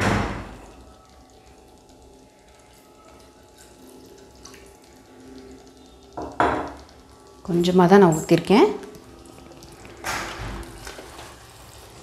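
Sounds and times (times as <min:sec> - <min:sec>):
water pouring into pot: 0:00.0 - 0:12.0.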